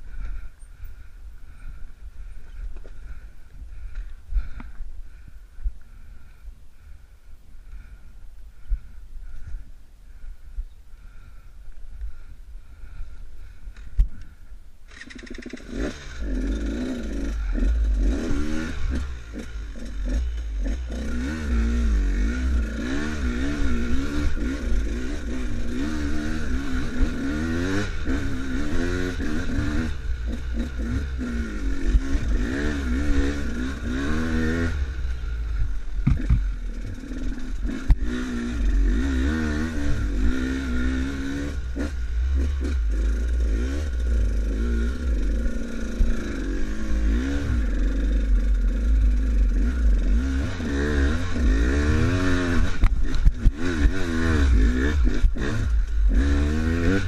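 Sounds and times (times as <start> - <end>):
motorcycle engine revving: 0.0 - 5.3, 12.1 - 57.0.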